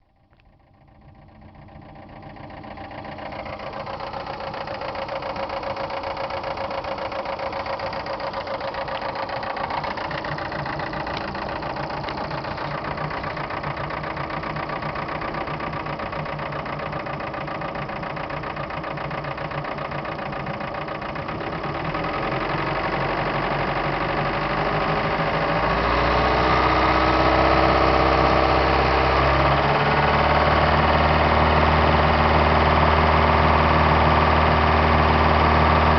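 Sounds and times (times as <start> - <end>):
boat engine idling with knocking: 0.7 - 35.9.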